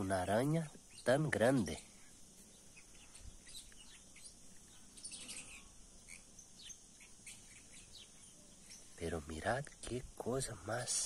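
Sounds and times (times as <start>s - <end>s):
faint bird chirps: 0.0s - 11.0s
faint steady hiss: 0.0s - 11.0s.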